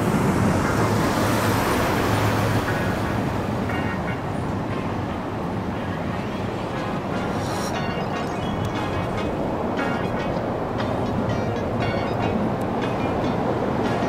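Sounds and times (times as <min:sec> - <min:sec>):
low engine hum: 0:00.0 - 0:14.0
road traffic noise: 0:00.0 - 0:14.0.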